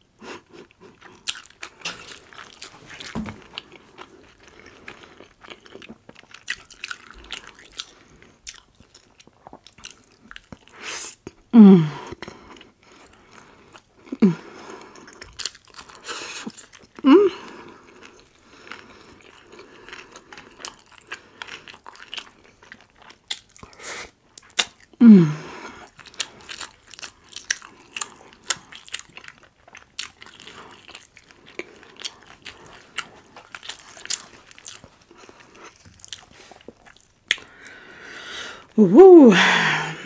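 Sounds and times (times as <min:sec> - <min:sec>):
crunchy chewing: 0:00.4 - 0:10.8, 0:12.3 - 0:25.0, 0:25.6 - 0:38.8.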